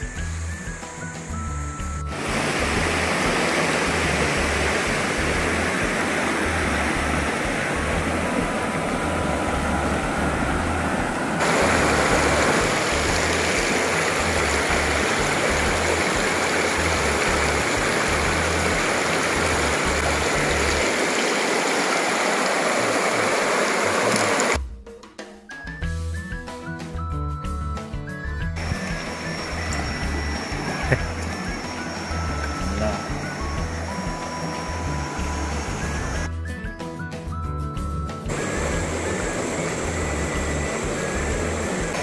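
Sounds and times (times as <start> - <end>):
pulsing bass line music: 0.0 - 20.8, 25.8 - 36.7, 37.3 - 42.0
river water rushing over stones: 2.1 - 24.6, 28.6 - 36.3, 38.3 - 42.0.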